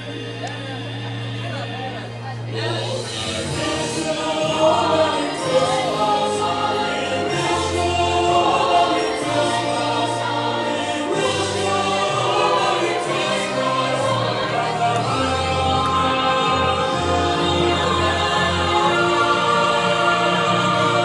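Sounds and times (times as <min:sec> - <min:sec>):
bass line: 0:00.0 - 0:21.0
choir singing long notes: 0:02.5 - 0:21.0.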